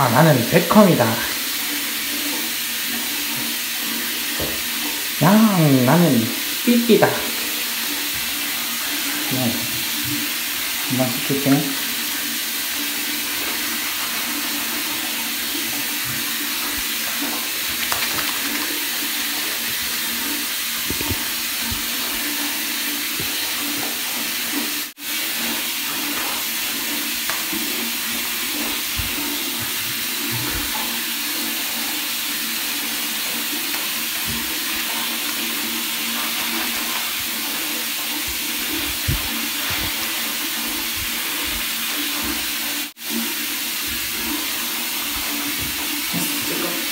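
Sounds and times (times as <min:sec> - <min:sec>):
water running in bathtub: 0:00.0 - 0:46.9.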